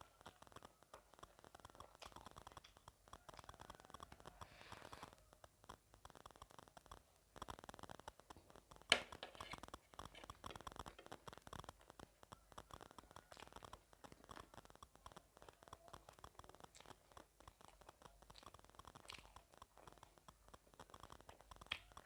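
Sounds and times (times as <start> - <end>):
person chewing crunchy snack: 0.0 - 22.0.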